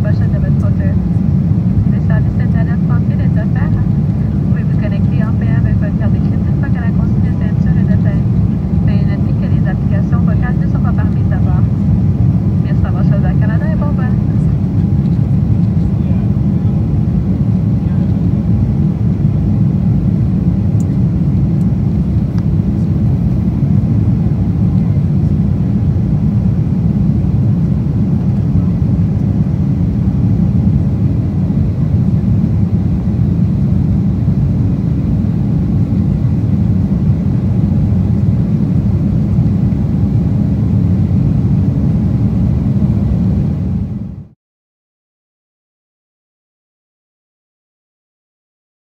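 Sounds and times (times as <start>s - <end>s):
faint steady hums: 0.0s - 44.2s
aircraft cabin engine rush: 0.0s - 44.4s.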